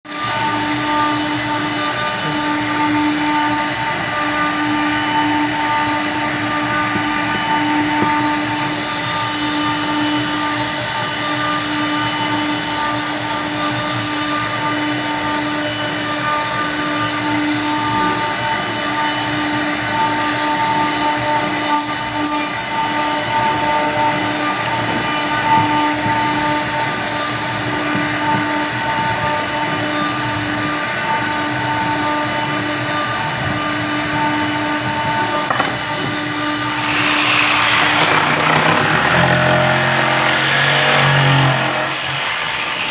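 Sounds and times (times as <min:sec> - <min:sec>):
electric machine motor whine: 0:00.2 - 0:42.9.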